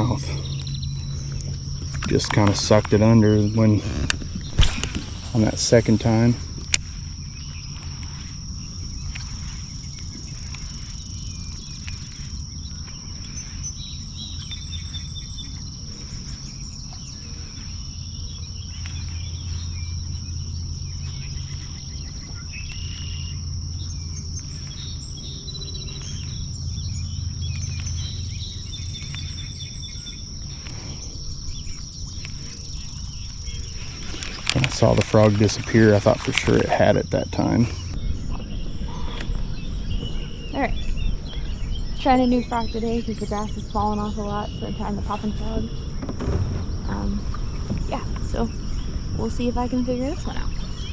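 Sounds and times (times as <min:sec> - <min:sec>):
bird chirps: 0:00.0 - 0:50.9
high drone of insects: 0:00.0 - 0:50.9
low steady rumble: 0:00.0 - 0:50.9.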